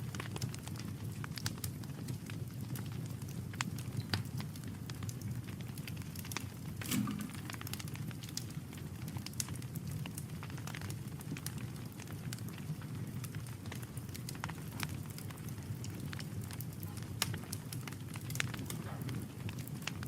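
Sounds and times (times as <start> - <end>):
campfire crackling and popping: 0.0 - 20.0
low fire rumble: 0.0 - 20.0.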